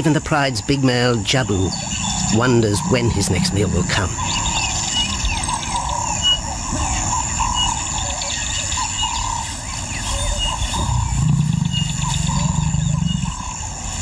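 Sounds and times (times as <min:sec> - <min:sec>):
birds calling and chirping: 0:00.0 - 0:14.0.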